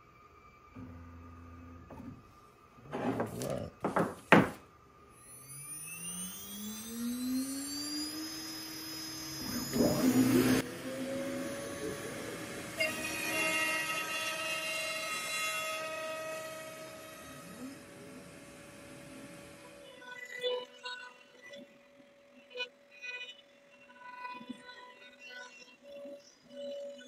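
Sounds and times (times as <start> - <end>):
router spindle whining: 0.0 - 27.0.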